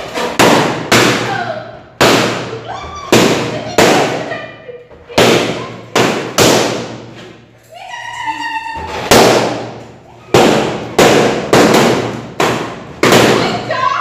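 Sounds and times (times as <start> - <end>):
balloons bursting with loud bangs: 0.0 - 4.5, 5.2 - 7.2, 8.9 - 13.8.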